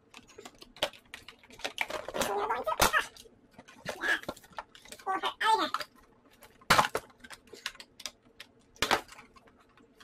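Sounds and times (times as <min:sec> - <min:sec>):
cardboard and plastic packaging handled: 0:00.0 - 0:10.0.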